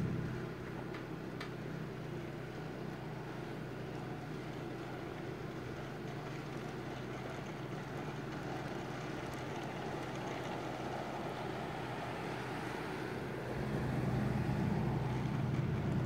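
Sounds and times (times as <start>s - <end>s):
constant low hum: 0.0s - 16.0s
outdoor background rumble: 0.0s - 16.0s.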